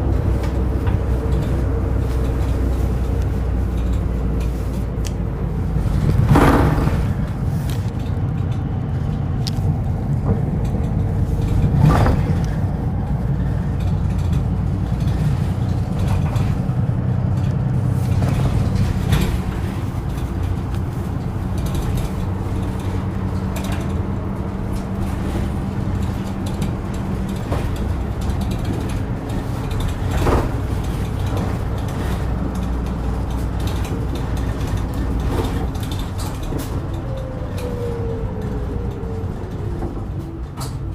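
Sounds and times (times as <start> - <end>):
bus engine and road rumble: 0.0 - 40.9
rattles and knocks: 0.0 - 40.9.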